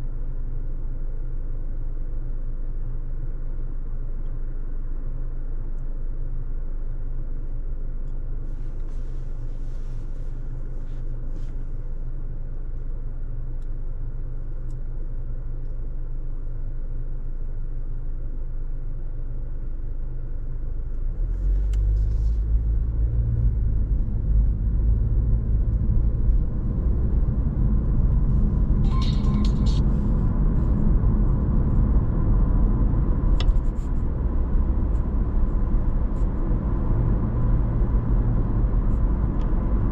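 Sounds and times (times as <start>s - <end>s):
car cabin road rumble: 4.1s - 39.9s.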